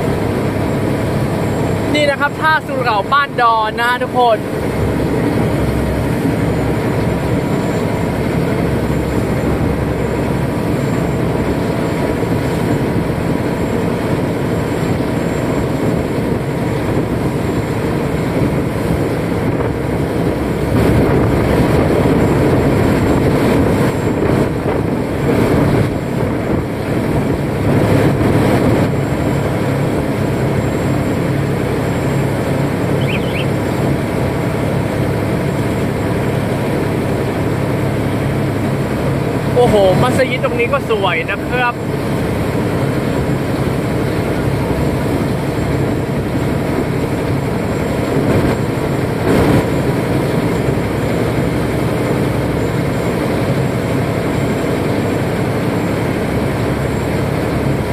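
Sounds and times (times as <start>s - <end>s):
boat engine running: 0.0s - 57.9s
water rushing beside hull: 0.0s - 57.9s.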